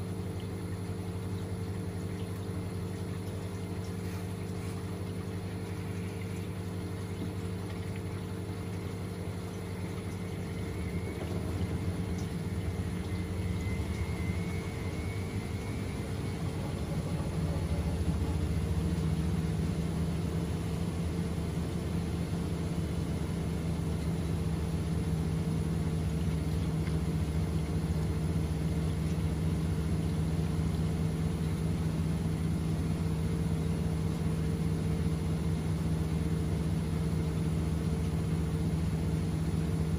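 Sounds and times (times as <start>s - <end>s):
washing machine motor hum: 0.0s - 39.9s
water and pump sounds: 0.0s - 39.9s.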